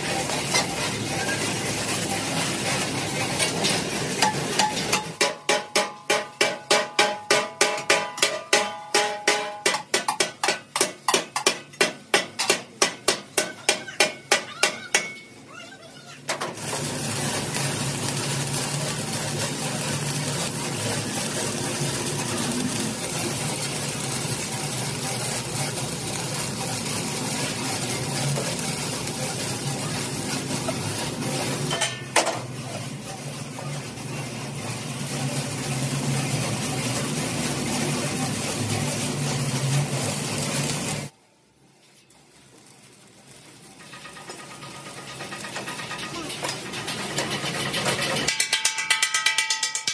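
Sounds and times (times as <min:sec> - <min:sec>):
arc welding sizzling hiss: 0:00.0 - 0:48.6.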